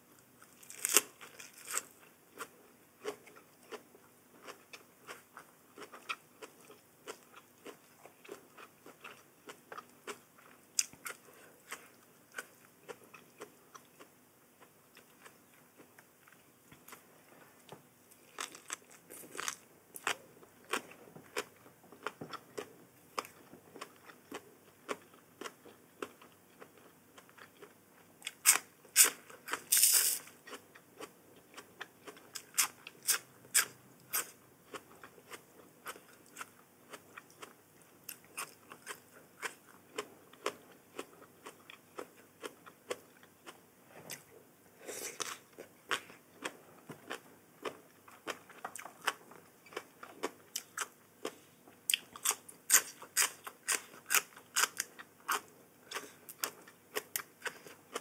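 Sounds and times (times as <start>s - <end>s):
crisp food crunching while chewed: 0.2s - 17.0s, 18.1s - 44.3s, 45.0s - 58.0s.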